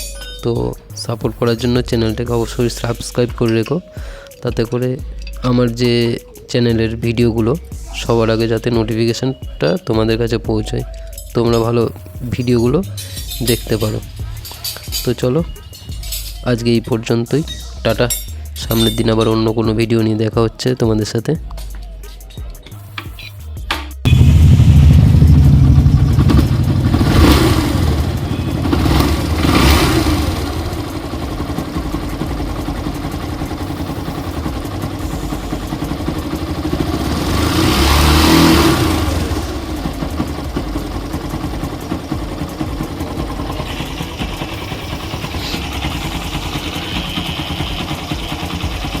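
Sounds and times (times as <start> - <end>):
motorcycle engine revving and idling: 0.0 - 3.7, 4.5 - 49.0.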